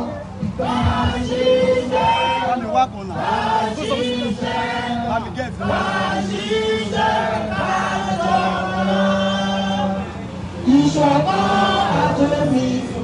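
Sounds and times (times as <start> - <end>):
crowd chanting a song: 0.0 - 13.0.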